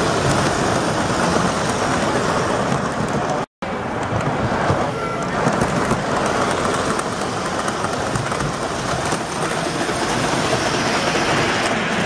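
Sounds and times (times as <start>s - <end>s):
model trains rolling on track: 0.0s - 12.0s
wheels clicking on rails: 0.0s - 12.0s.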